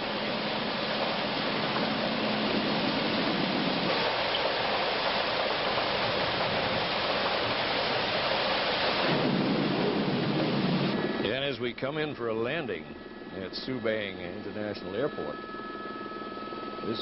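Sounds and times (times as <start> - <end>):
helicopter cabin noise: 0.0 - 17.0.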